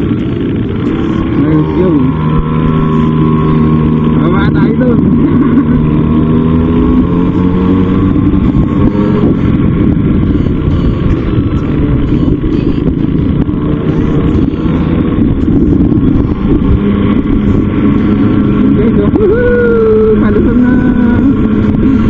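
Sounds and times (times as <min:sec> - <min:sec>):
small motorbike engine running: 0:00.0 - 0:22.0
wind rushing on microphone: 0:00.0 - 0:22.0.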